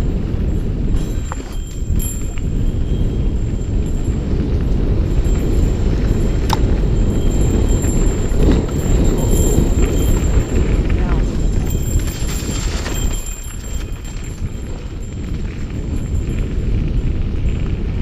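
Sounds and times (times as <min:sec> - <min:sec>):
bike rattling over ground: 0:00.0 - 0:18.0
wind rumble on microphone: 0:00.0 - 0:18.0.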